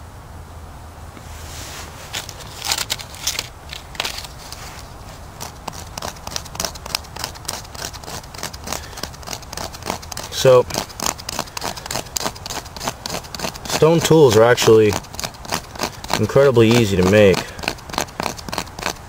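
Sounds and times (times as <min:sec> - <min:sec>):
stone scraping birch bark: 0:01.2 - 0:19.0.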